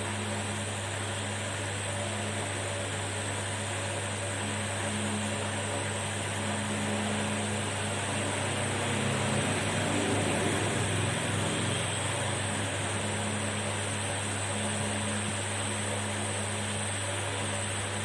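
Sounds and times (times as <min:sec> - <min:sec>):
hot-air station blowing: 0:00.0 - 0:15.6.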